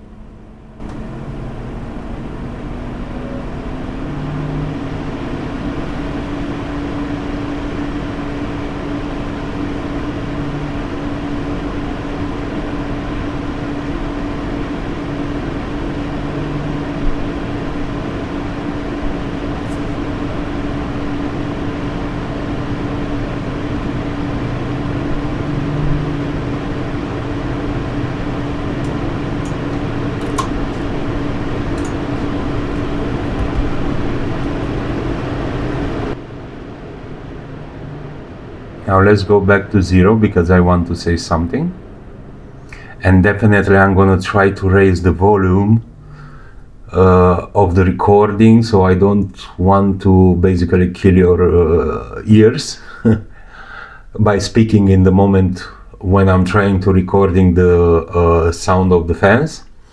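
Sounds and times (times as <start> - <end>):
computer case fans droning: 0.0 - 59.9.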